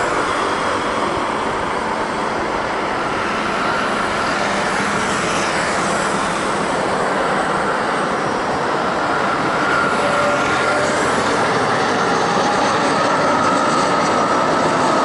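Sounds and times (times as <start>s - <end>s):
faint engine whine: 0.0s - 15.0s
jet engine rushing: 0.0s - 15.0s.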